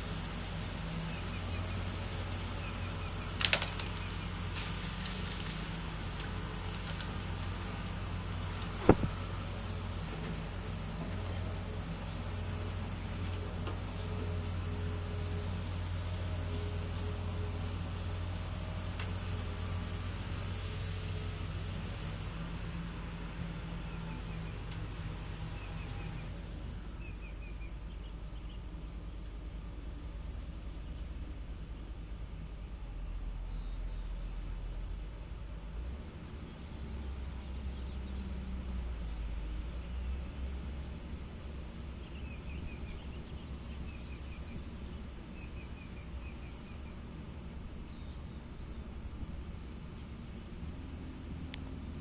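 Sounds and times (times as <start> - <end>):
outdoor noise: 0.0 - 52.0.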